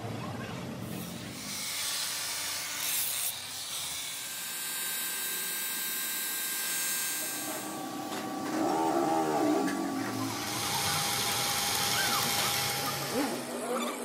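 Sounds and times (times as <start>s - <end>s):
angle grinder grinding steel: 0.9s - 14.0s.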